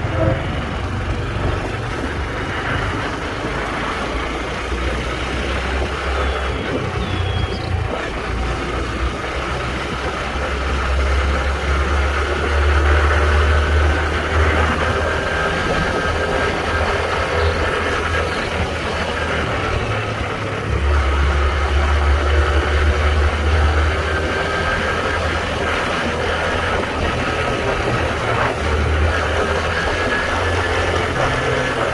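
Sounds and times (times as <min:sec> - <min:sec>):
motorcycle engine running: 0:00.0 - 0:31.9
wind and road noise: 0:00.0 - 0:31.9.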